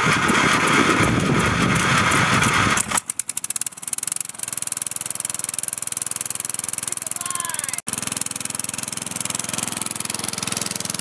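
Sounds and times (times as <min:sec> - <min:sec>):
electric starter cranking engine: 0:00.0 - 0:11.0
lawn mower engine running: 0:00.0 - 0:11.0.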